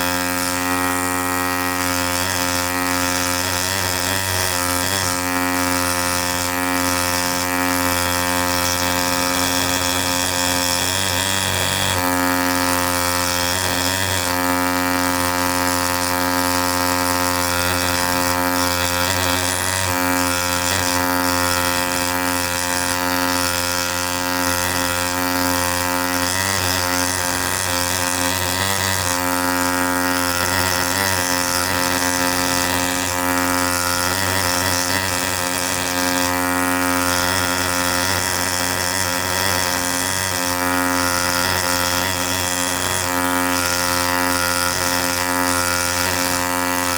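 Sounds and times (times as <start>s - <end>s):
air scribe buzzing: 0.0s - 46.9s.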